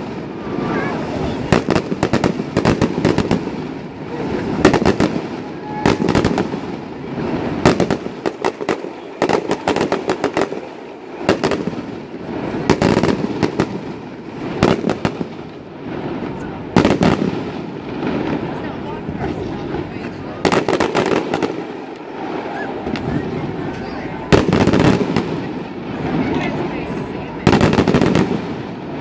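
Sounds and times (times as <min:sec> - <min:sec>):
fireworks cracks and bangs: 0:00.0 - 0:29.0.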